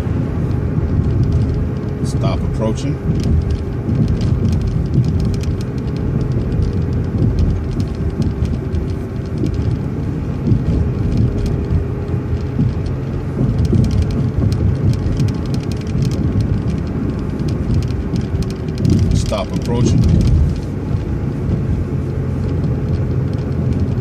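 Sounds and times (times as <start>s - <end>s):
bus body rattling: 0.0s - 24.0s
bus engine and road rumble: 0.0s - 24.0s
constant hum: 0.0s - 24.0s.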